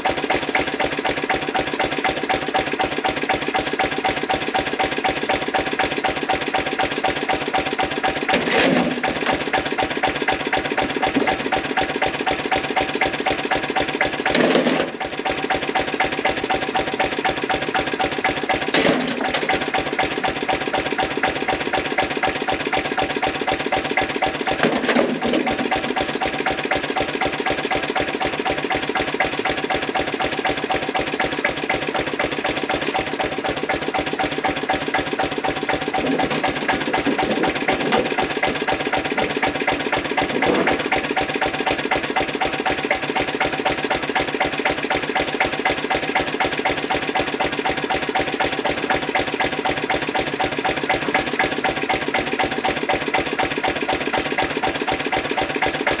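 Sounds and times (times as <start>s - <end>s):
diesel engine running: 0.0s - 54.7s.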